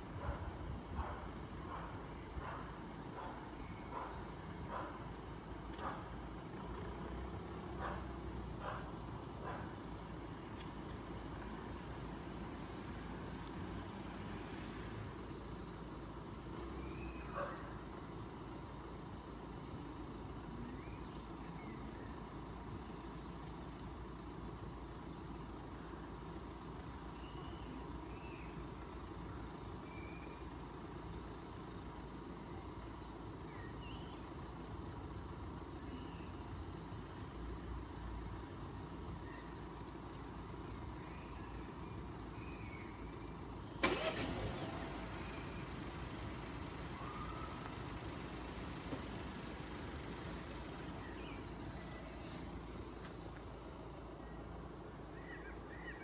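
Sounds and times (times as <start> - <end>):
low rumble and hiss: 0.0 - 56.0.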